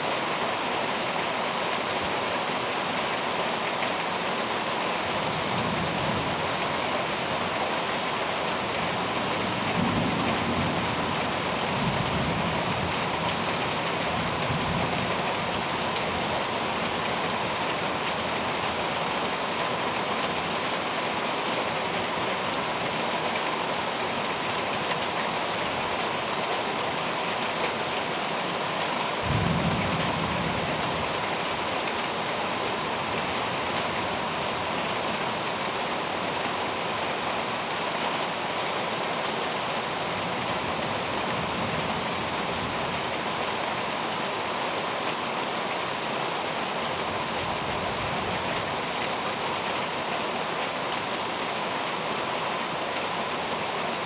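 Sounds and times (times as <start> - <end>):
rain pouring on plants: 0.0 - 54.0.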